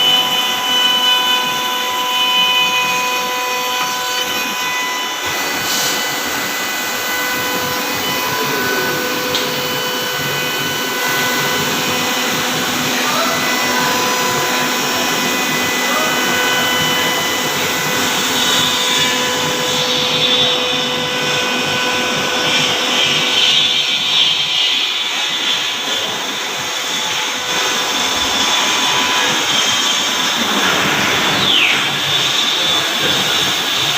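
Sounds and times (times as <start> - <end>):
cnc router spindle whine: 0.0 - 33.9
cutter routing wood: 0.0 - 33.9.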